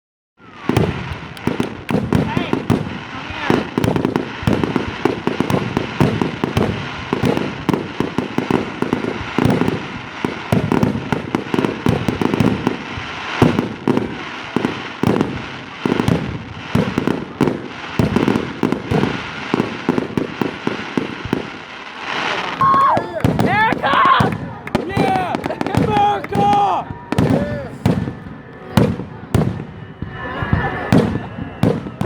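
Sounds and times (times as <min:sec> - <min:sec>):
fireworks banging: 0:00.4 - 0:32.0.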